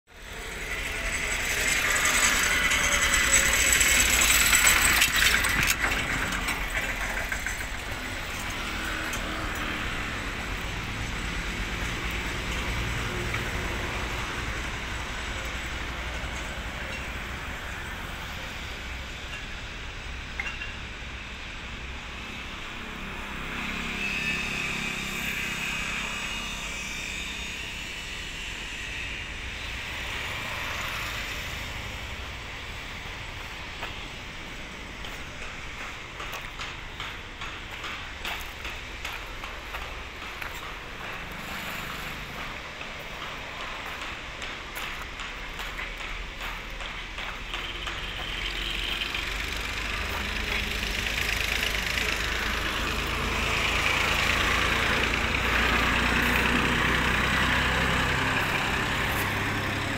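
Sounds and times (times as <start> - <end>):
outdoor background noise: 0.1 - 59.9.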